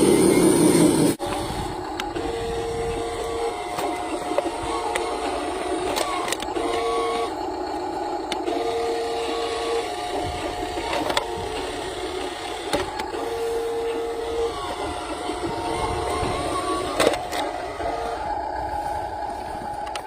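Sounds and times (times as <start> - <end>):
toy electric motor whirring: 0.0 - 20.0.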